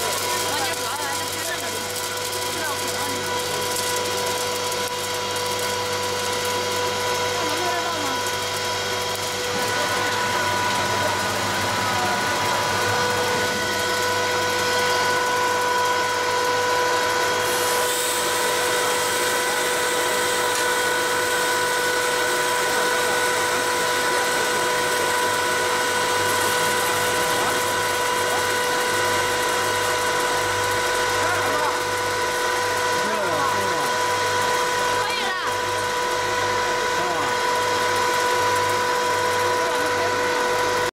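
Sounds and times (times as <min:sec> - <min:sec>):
popcorn machine drone and whine: 0:00.0 - 0:40.9.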